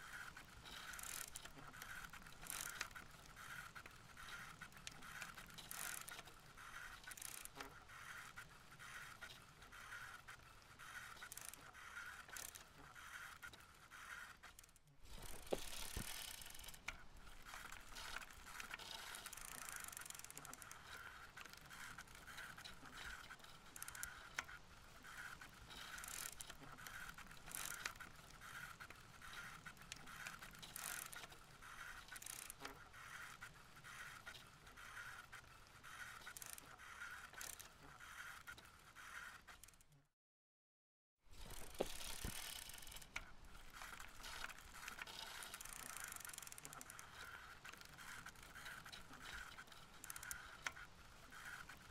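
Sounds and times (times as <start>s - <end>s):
bicycle riding on road: 0.0s - 40.0s, 41.3s - 51.9s.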